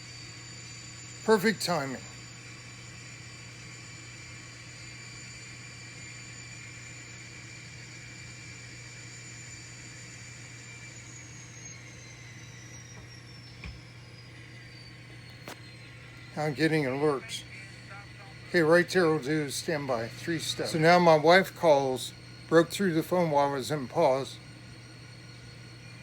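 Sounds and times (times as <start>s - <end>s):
small electric motor whining: 0.0s - 26.0s.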